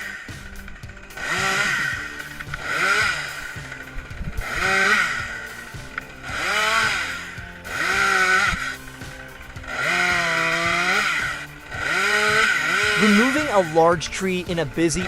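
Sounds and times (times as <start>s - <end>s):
background music: 0.0s - 15.0s
chainsaw revving: 0.0s - 15.0s.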